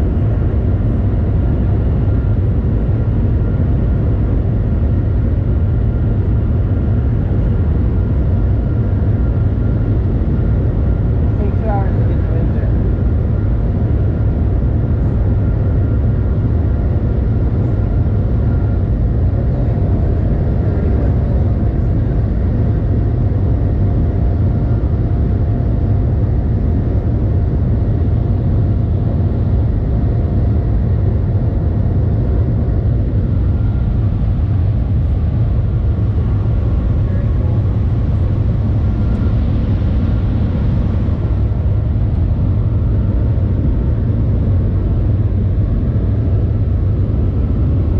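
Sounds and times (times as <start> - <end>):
faint whine: 0.0 - 47.9
train cabin low rumble: 0.0 - 47.9.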